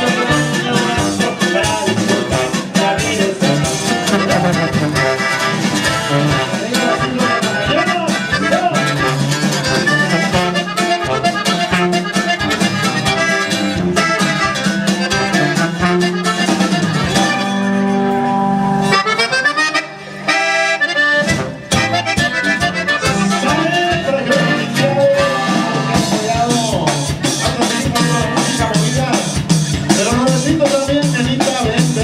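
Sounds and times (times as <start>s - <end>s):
accordion-led band music: 0.0s - 32.0s.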